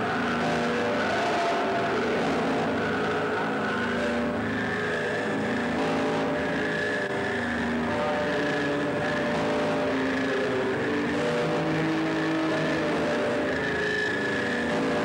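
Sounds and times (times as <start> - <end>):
electronic drone music: 0.0 - 15.0.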